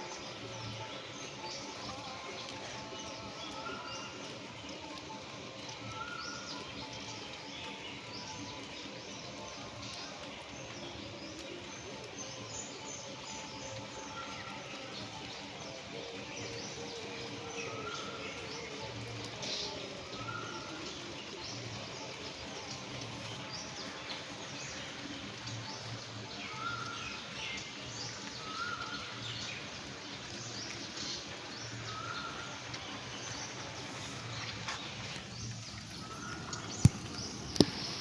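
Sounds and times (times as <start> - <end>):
small birds chirping: 0.0 - 38.0
steady rain: 0.0 - 38.0.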